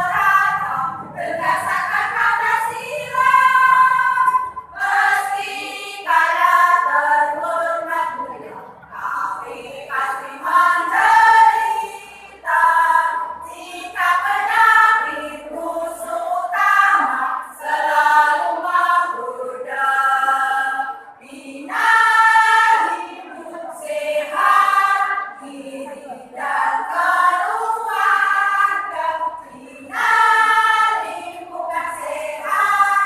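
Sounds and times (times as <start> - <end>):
choir singing: 0.0 - 33.0.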